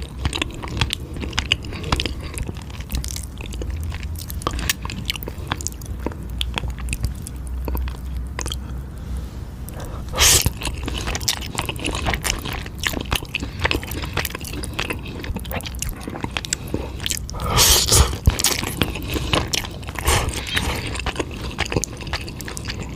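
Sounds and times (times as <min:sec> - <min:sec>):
wet chewing and biting: 0:00.0 - 0:08.8, 0:09.6 - 0:22.9.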